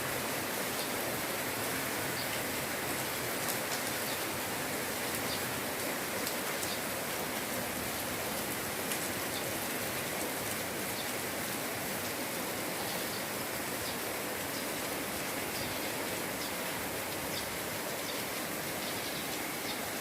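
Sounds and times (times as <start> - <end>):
light rain pattering: 0.0 - 20.0.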